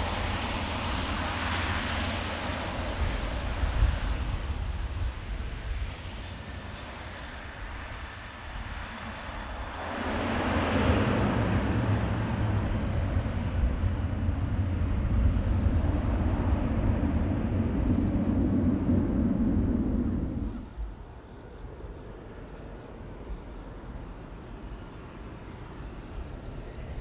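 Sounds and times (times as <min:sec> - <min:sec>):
turboprop engines roaring: 0:00.0 - 0:27.0.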